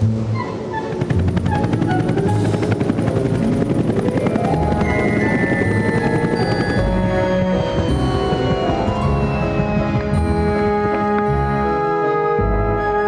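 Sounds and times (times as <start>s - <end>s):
background music with held notes: 0.0s - 13.0s
helicopter rotor chopping: 0.1s - 11.6s.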